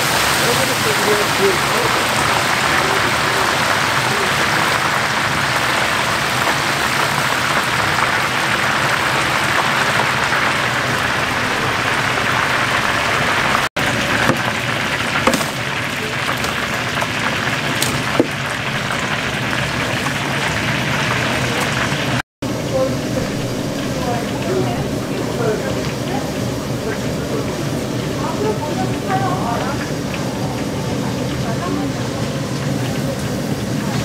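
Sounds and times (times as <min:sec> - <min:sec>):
hot oil sizzling: 0:00.0 - 0:34.0.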